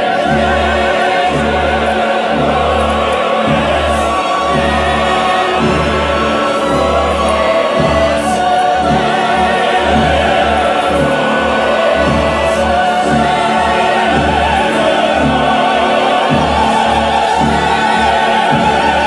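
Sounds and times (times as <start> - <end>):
opera singing: 0.0 - 19.0
orchestral accompaniment: 0.0 - 19.0.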